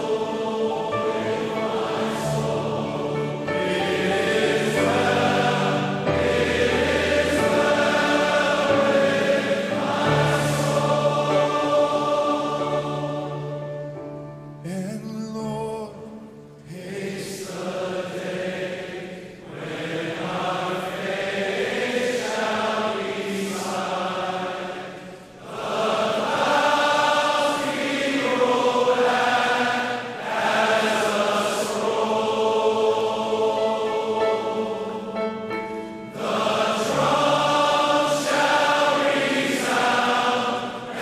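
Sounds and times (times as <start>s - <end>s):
choir singing in harmony: 0.0s - 14.7s, 15.8s - 41.0s.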